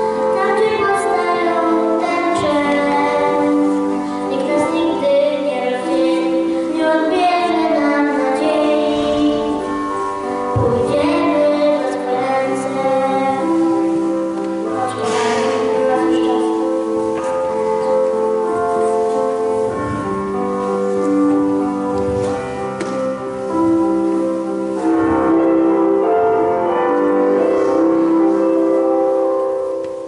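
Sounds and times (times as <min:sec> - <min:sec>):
slow instrumental music: 0:00.0 - 0:30.0.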